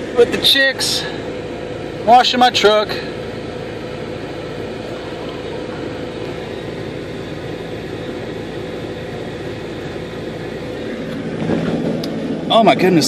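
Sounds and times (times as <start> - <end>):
air-conditioning fan rushing: 0.0 - 13.0
truck idling hum: 0.0 - 13.0.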